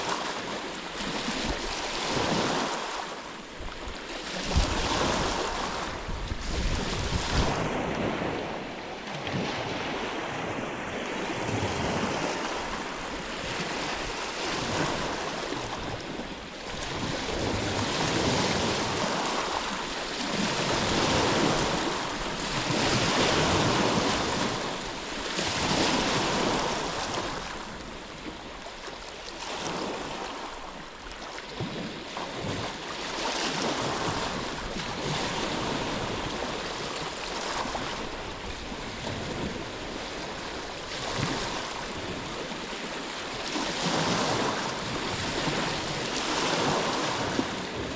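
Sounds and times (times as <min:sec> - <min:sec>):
sea waves breaking ashore: 0:00.0 - 0:47.9.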